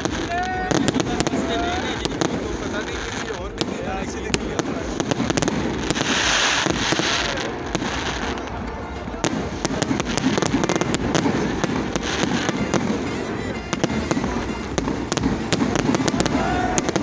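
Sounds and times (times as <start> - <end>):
fireworks banging: 0.0 - 17.0
hissing crackling firework burst: 0.0 - 17.0.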